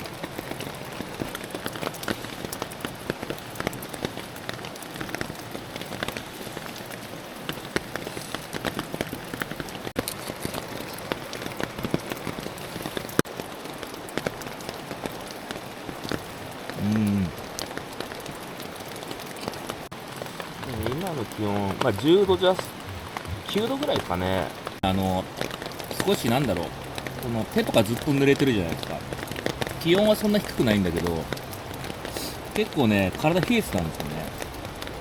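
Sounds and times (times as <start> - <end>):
rain on a tarp: 0.0 - 35.0.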